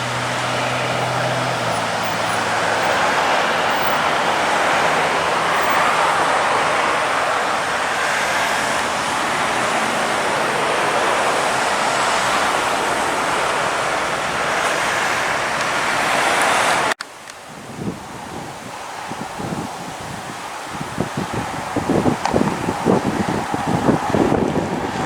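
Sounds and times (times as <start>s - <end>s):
road traffic rushing: 0.0s - 25.0s.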